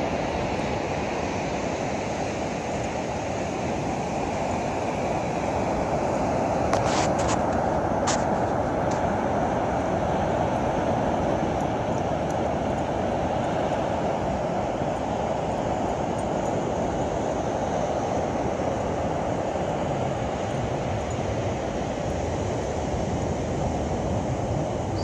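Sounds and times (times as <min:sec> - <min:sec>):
ocean surf breaking on sand: 0:00.0 - 0:25.0.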